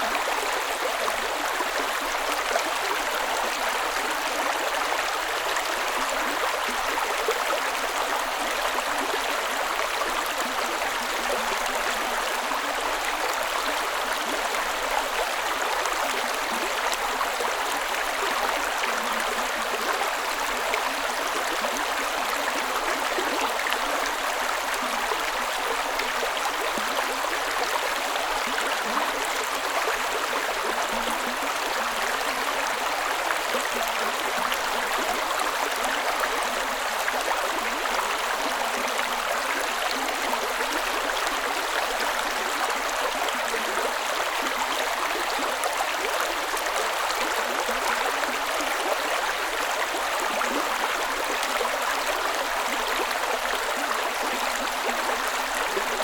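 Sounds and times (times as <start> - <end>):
creek flowing over rocks: 0.0 - 56.0.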